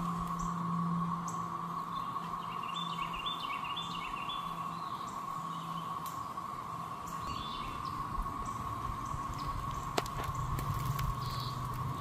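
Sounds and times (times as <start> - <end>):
cicadas droning: 0.0 - 12.0
songbird singing: 0.0 - 12.0.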